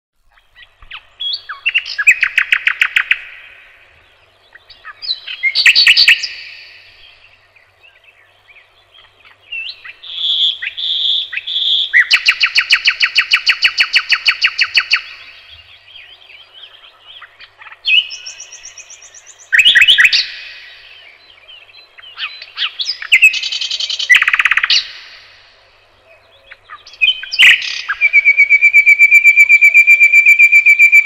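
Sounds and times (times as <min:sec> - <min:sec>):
songbird trilling: 0:00.3 - 0:31.0.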